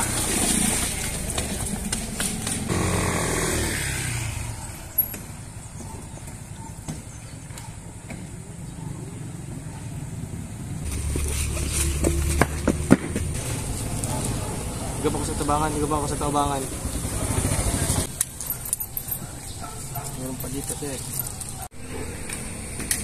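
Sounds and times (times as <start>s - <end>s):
motor vehicle passing: 0.0s - 6.6s, 8.3s - 23.0s.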